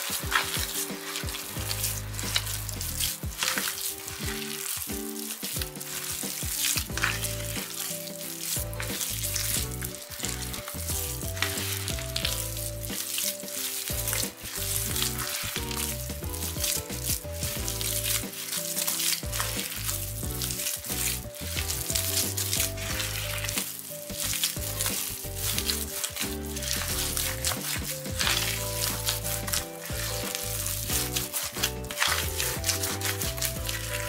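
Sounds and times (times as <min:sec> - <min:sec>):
background music: 0:00.0 - 0:34.0
hands squishing wet mixture: 0:00.0 - 0:34.0.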